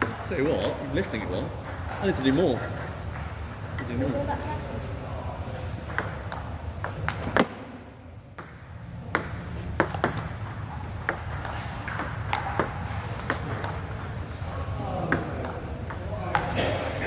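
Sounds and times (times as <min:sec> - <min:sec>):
table tennis balls clicking: 0:00.0 - 0:04.1, 0:05.7 - 0:07.6, 0:08.3 - 0:17.0.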